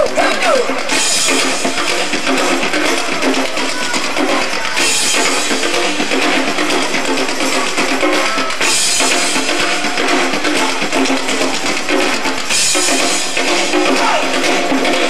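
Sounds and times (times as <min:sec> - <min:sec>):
live rock band playing: 0:00.0 - 0:14.9.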